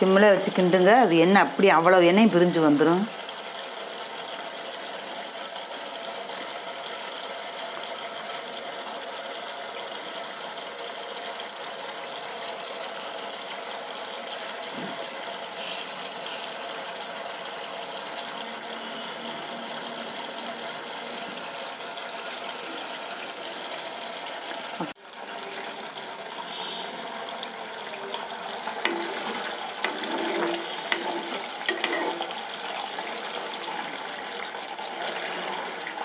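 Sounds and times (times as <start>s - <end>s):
coconut milk bubbling in a pan: 0.2s - 36.0s.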